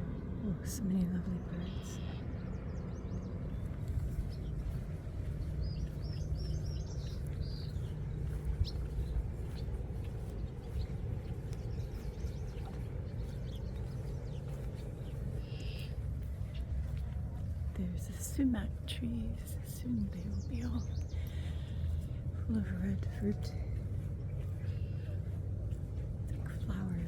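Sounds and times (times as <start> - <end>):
low outdoor rumble: 0.0 - 27.0
small birds chirping: 0.4 - 27.0.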